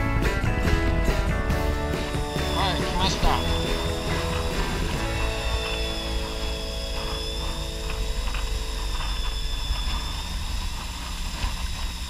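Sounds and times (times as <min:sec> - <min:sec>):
boat engine rumbling: 0:00.0 - 0:12.0
wind hissing: 0:02.1 - 0:12.0.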